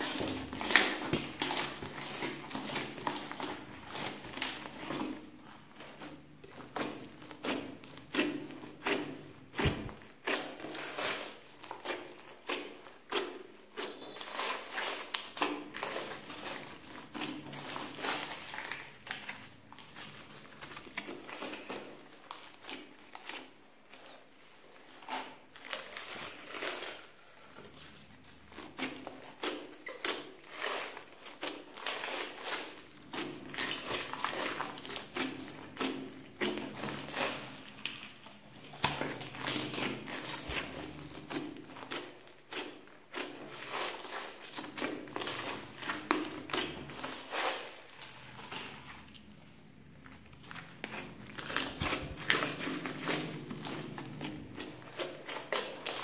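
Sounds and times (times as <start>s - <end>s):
hands squishing slime: 0.0s - 56.0s.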